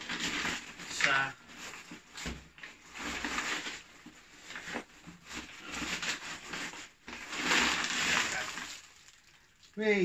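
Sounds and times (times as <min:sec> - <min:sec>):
paper rustling and crinkling: 0:00.0 - 0:09.3.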